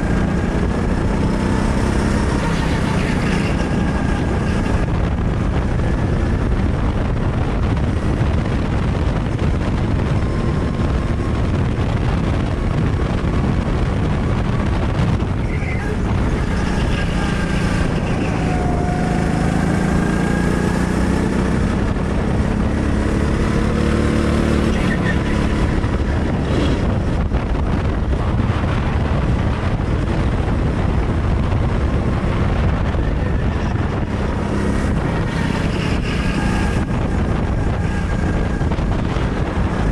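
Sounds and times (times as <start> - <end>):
go-kart engine running: 0.0 - 39.9
rushing wind noise: 0.0 - 39.9.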